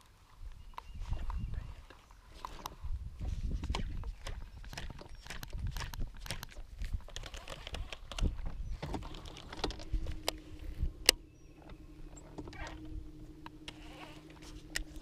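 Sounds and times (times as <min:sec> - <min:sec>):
trolling motor humming: 0:02.5 - 0:15.0.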